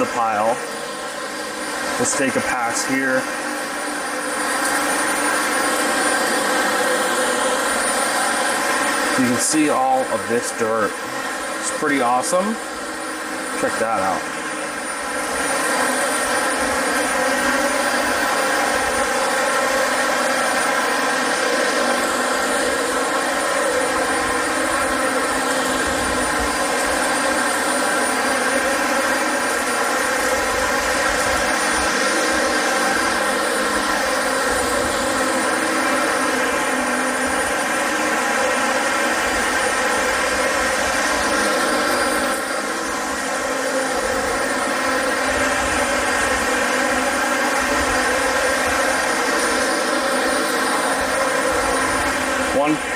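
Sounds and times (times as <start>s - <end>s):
vacuum cleaner on carpet: 0.0s - 52.9s.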